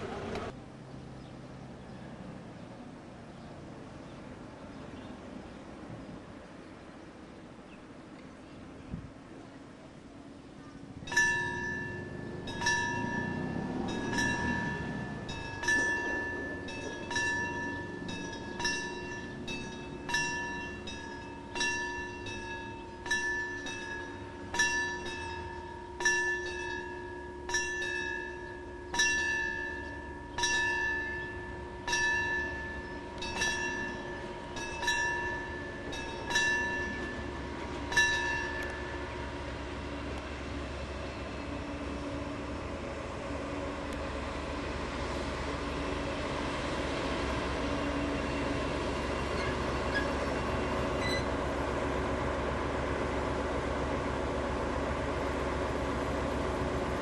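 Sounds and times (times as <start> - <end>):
diesel locomotive engine hum: 0.0 - 57.0
railway warning bell ringing: 10.7 - 57.0.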